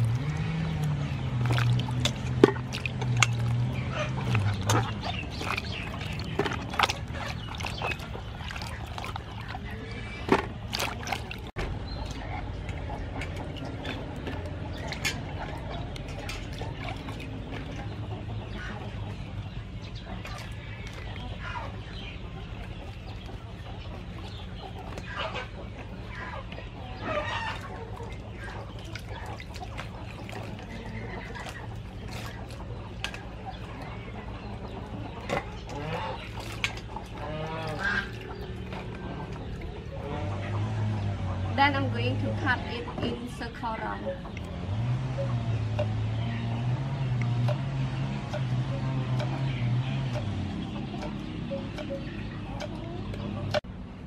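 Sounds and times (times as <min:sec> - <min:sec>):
water splashing in steel bowl: 0:00.0 - 0:53.7
poultry calling: 0:02.8 - 0:53.6.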